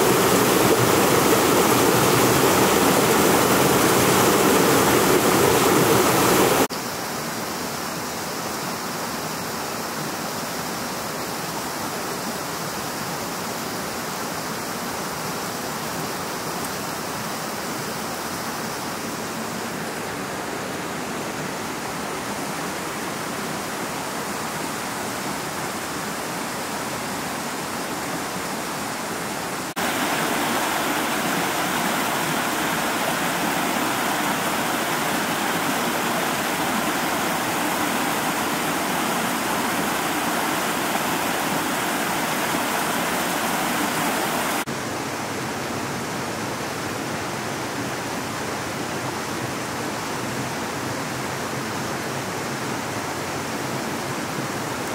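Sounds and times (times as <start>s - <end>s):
mountain stream rushing over rocks: 0.0s - 54.9s.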